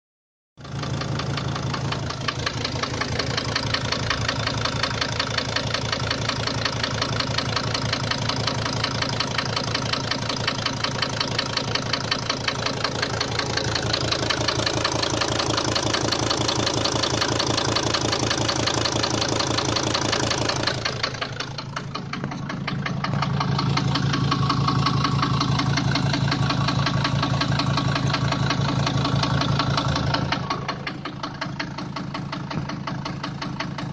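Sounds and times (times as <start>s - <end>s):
diesel engine idling with knock: 0.6s - 33.9s.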